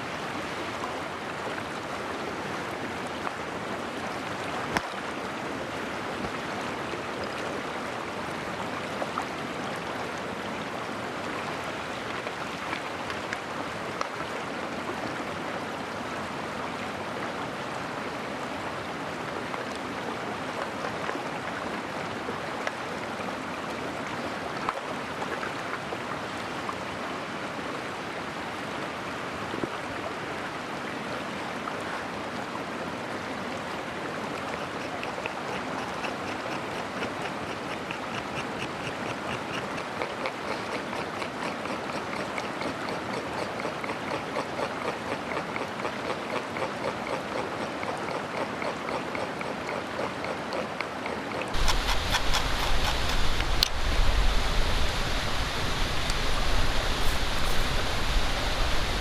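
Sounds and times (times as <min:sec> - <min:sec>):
mountain stream flowing: 0:00.0 - 0:59.0.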